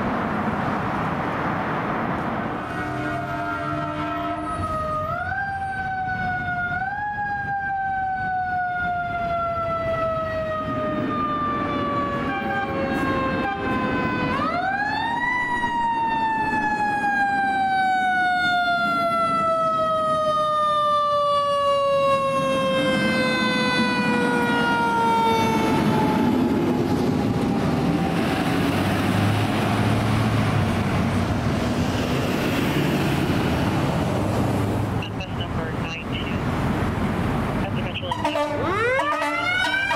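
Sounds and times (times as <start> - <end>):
fire engine passing: 0.0 - 39.9
fire engine siren wailing: 2.5 - 39.9.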